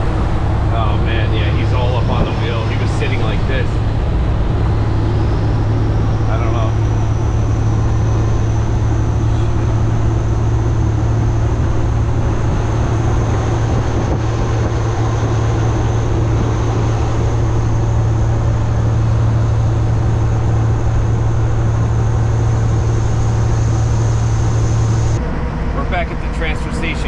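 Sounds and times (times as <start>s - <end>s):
truck diesel engine drone: 0.0s - 27.0s.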